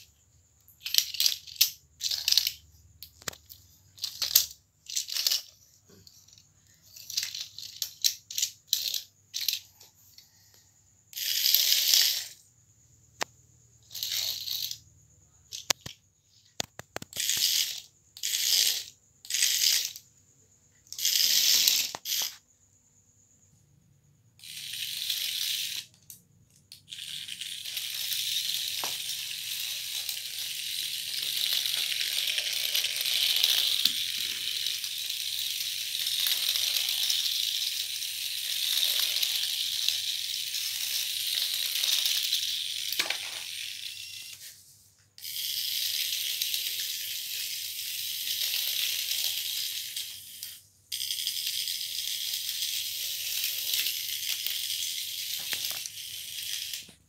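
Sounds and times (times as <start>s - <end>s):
toy snakes rattling on tile: 0.0s - 22.7s, 23.4s - 57.0s.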